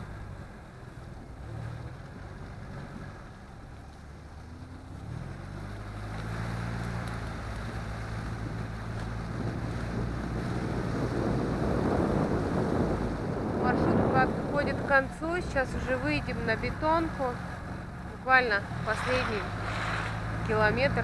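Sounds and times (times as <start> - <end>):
engine drone while driving: 0.0 - 21.0
road and wind noise: 0.0 - 21.0.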